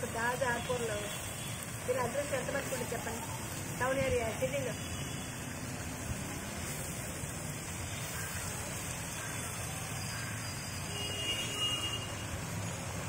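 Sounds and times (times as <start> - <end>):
leaves sizzling in oil: 0.0 - 13.0.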